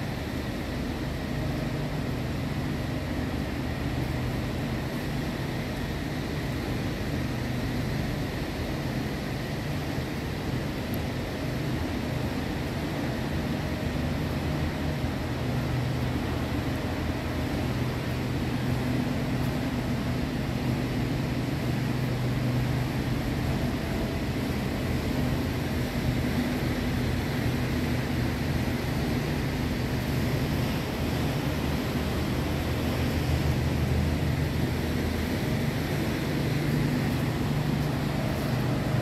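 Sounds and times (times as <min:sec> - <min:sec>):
machinery hum and rumble: 0:00.0 - 0:39.0.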